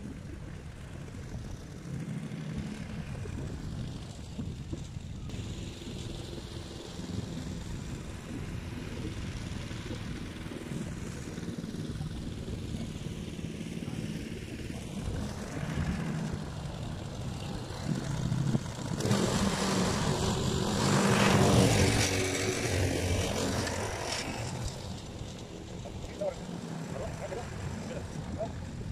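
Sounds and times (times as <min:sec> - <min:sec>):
lawn mower cutting grass: 0:00.1 - 0:28.9.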